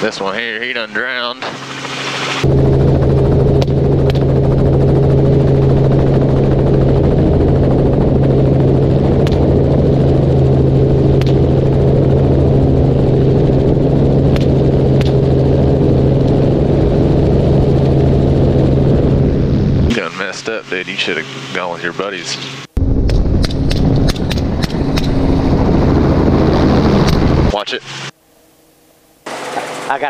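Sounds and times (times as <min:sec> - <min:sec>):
helicopter drone: 0:00.0 - 0:30.0.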